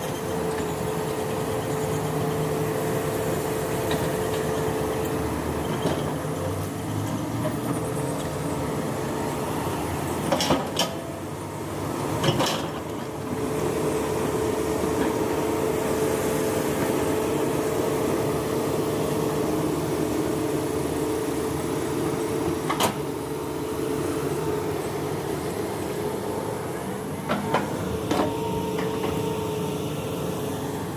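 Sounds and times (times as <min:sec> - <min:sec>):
excavator engine drone: 0:00.0 - 0:30.9.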